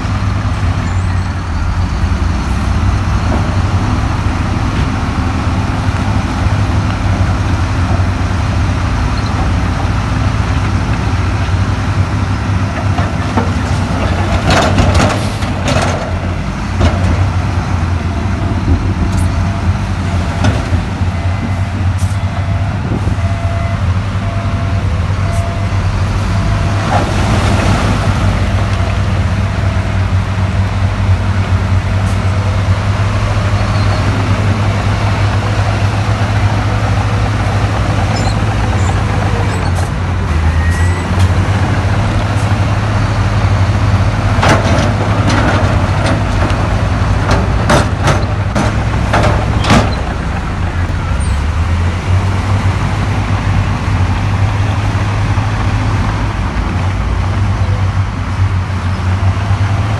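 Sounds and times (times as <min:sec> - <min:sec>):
heavy machinery engine hum: 0:00.0 - 0:59.9.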